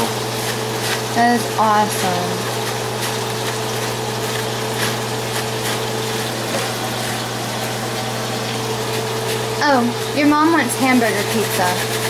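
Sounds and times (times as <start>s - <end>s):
frying oil sizzling: 0.0s - 12.0s.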